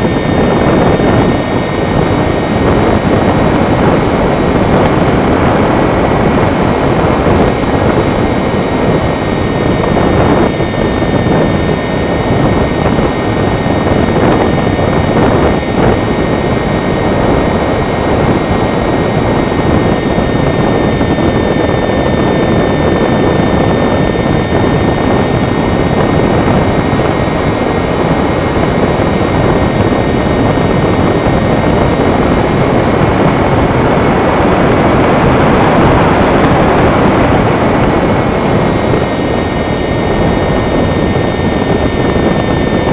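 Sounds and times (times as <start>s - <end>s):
electric motor and propeller whine: 0.0s - 42.9s
wind noise on microphone: 0.0s - 42.9s.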